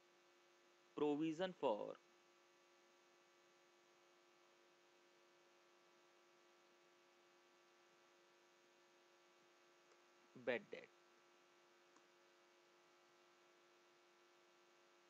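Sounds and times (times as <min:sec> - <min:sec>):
faint electrical hum and hiss: 0:00.0 - 0:15.0.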